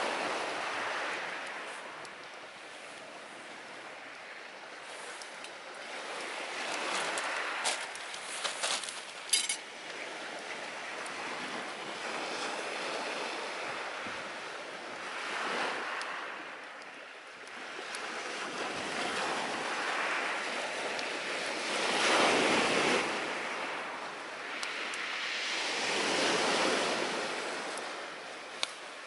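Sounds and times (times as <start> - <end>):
sea waves washing onto shore: 0.0 - 29.0.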